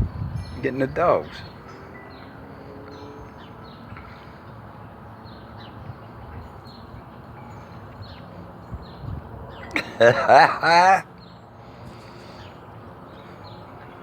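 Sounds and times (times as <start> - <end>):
steady low outdoor noise: 0.0 - 14.0
birds chirping: 0.2 - 14.0.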